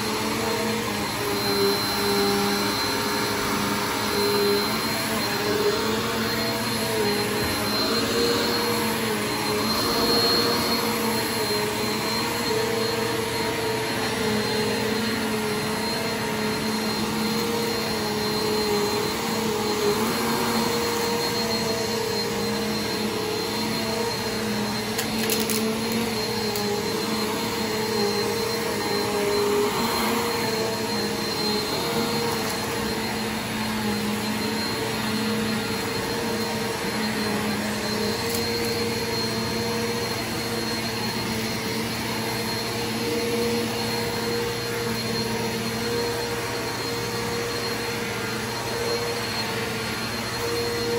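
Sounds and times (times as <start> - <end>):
vacuum cleaner running on carpet: 0.0 - 50.9.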